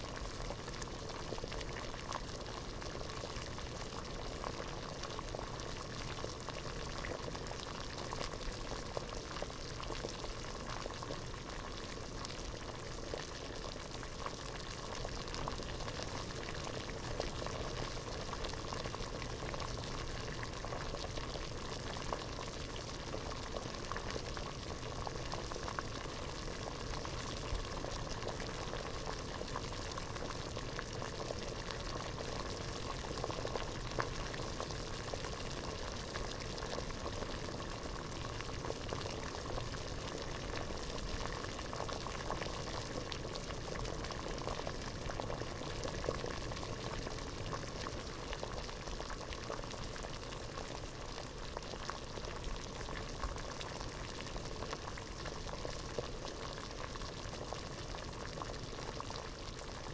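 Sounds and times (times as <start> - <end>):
water boiling in a pot: 0.0 - 59.9.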